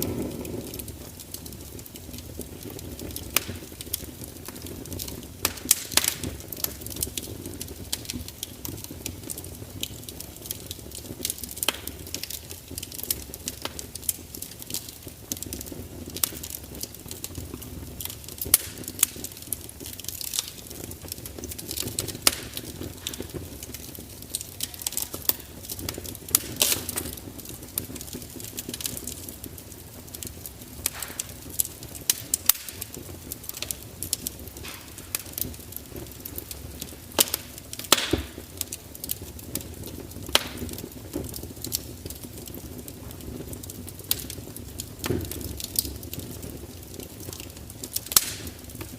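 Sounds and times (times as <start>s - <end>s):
fire popping and snapping: 0.0s - 48.9s
low rumble of flames: 0.0s - 48.9s.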